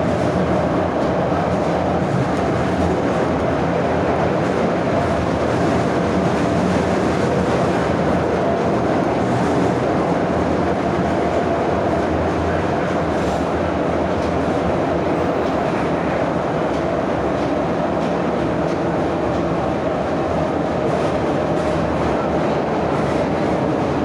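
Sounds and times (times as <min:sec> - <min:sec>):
subway car wheels rumbling: 0:00.0 - 0:24.0.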